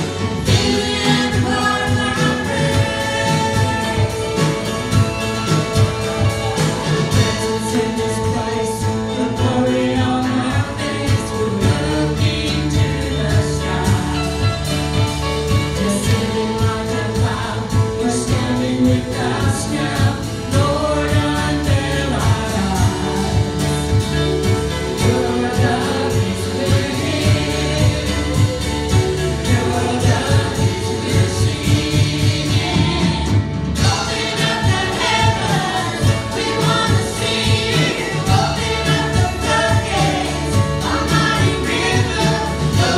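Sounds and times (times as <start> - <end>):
live worship band playing: 0.0 - 42.9
people singing: 0.0 - 42.9.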